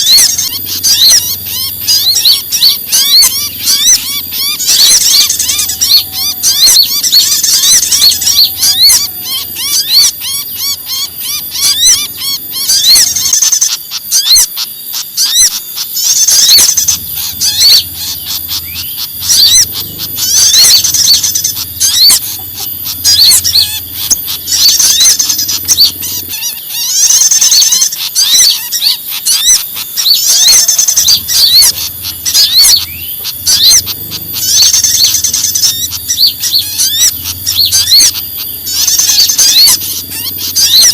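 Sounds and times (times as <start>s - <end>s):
songbirds alarm chatter: 0.0s - 40.9s.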